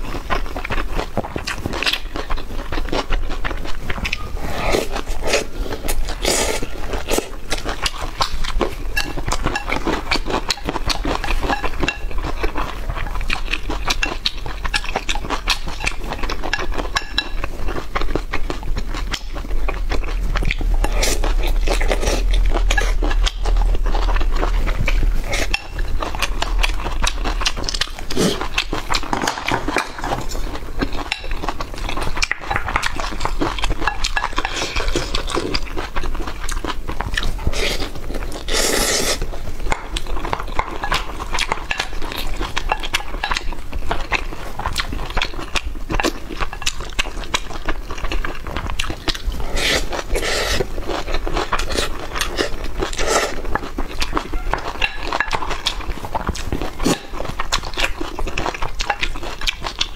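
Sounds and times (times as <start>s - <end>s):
wet chewing and smacking: 0.0s - 38.6s, 39.2s - 59.9s.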